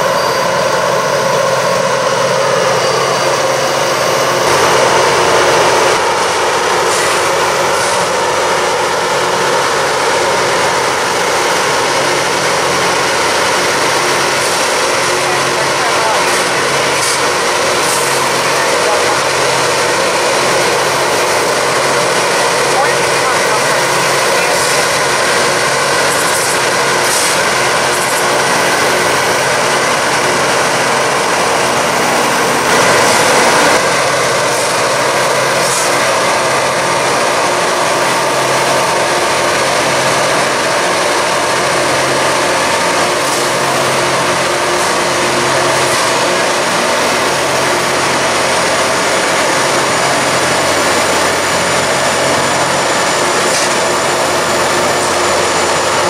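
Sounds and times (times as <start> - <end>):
diesel engine drone: 0.0 - 56.0
grinding stones hissing on rails: 0.0 - 56.0.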